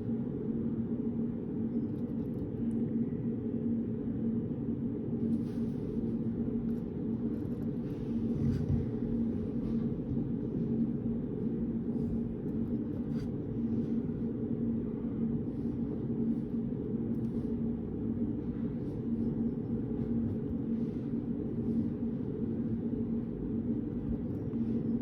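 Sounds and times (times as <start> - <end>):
reading room hum: 0.0 - 25.0.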